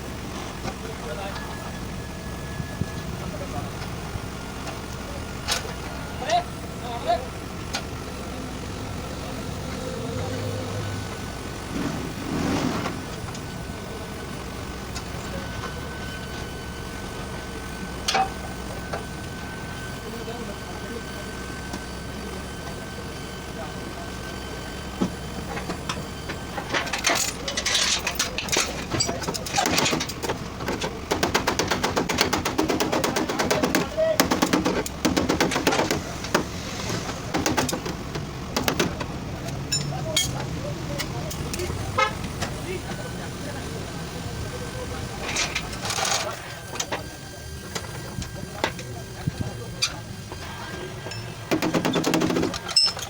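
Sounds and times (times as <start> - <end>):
steady mechanical rumble: 0.0 - 53.0.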